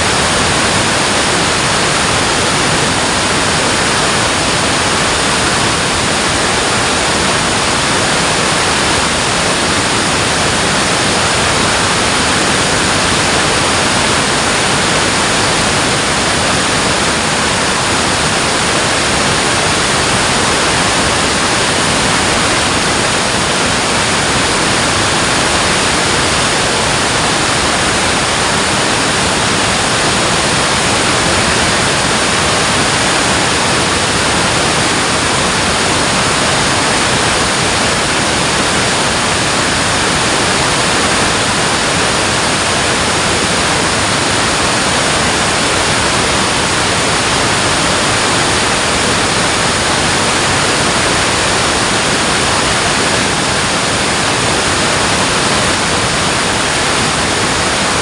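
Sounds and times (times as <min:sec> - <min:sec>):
water rushing over a dam: 0:00.0 - 0:58.0.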